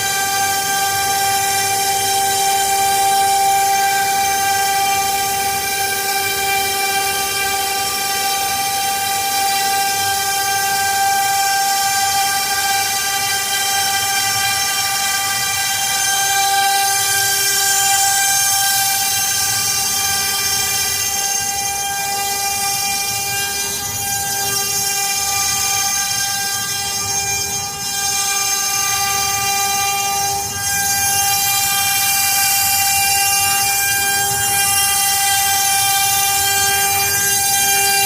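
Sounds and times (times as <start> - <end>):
router spindle high whine: 0.0 - 38.0.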